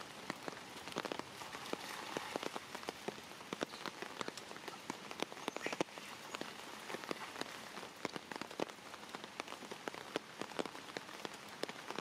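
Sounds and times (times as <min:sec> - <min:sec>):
rain hissing on water: 0:00.0 - 0:12.0
raindrops ticking on water: 0:00.0 - 0:12.0.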